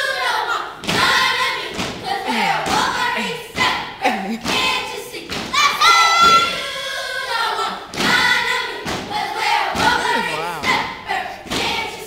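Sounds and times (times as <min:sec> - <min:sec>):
children chanting and calling out: 0:00.0 - 0:12.0.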